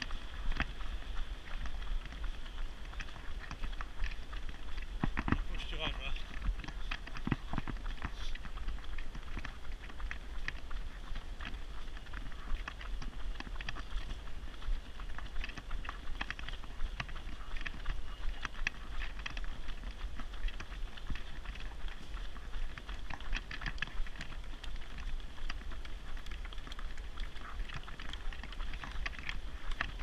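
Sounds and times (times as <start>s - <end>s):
jogging stroller rattling: 0.0s - 30.0s
running footsteps on tarmac: 0.0s - 30.0s
steady low rumble: 0.0s - 30.0s.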